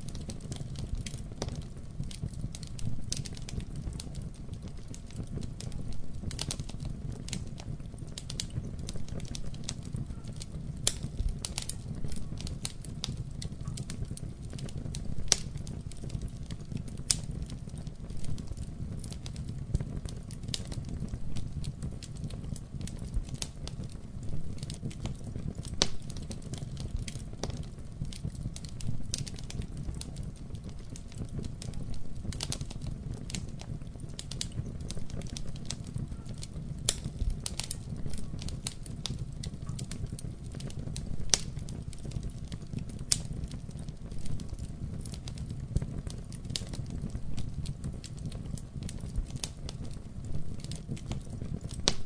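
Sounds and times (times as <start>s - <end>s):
rumble of flames: 0.0s - 52.0s
wood fire crackling and popping: 0.0s - 52.0s.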